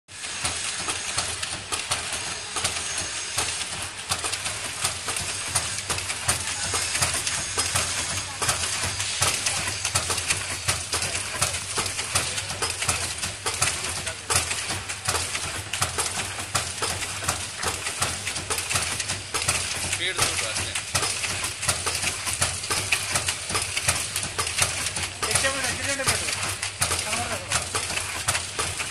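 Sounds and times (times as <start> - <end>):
packing machine clattering: 0.1 - 28.9.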